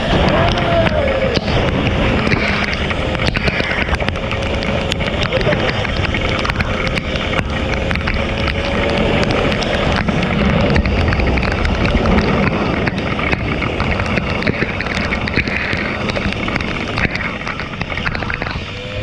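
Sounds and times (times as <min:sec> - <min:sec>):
rain noise: 0:00.0 - 0:19.0
sharp clicks: 0:00.0 - 0:19.0
two-stroke motorcycle engine: 0:00.0 - 0:19.0
wind noise on microphone: 0:00.0 - 0:19.0.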